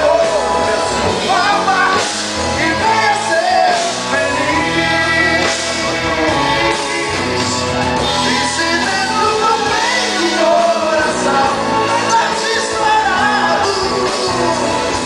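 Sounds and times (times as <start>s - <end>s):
live pop-rock band: 0.0s - 15.0s
melodic lead line bending: 0.0s - 15.0s.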